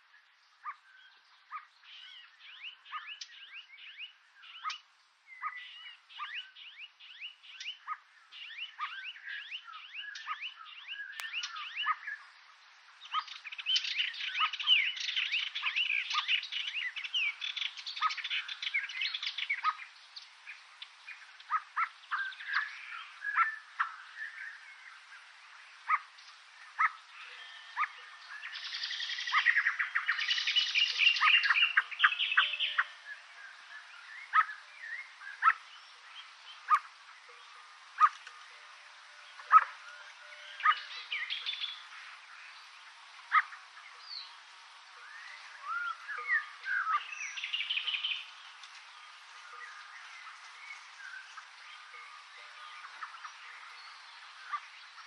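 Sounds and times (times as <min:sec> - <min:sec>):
wild birds twittering song: 0:00.0 - 0:55.0.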